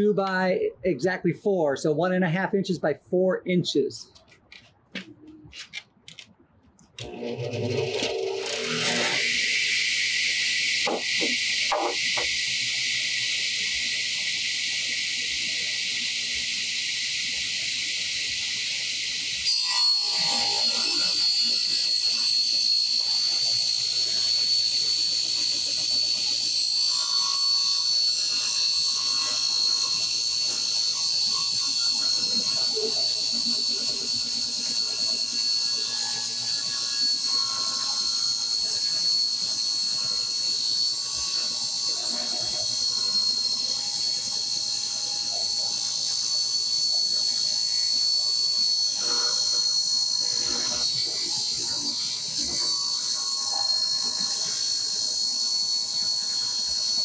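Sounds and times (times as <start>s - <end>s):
table saw blade whine: 6.9s - 57.0s
saw cut hissing through wood: 7.0s - 57.0s.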